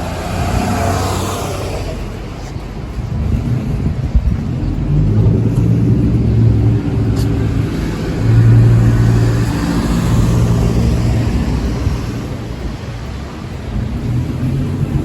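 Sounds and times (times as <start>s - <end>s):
rushing noise: 0.0s - 15.0s
vehicle engine hum: 0.0s - 15.0s.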